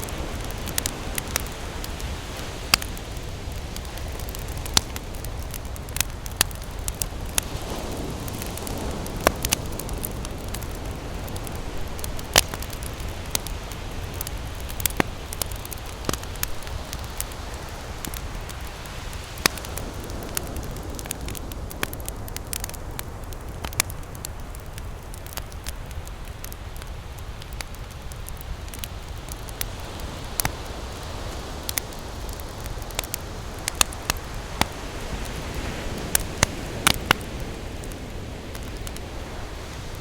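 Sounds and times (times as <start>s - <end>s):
campfire crackling and popping: 0.0s - 40.0s
ocean surf rumble: 0.0s - 40.0s.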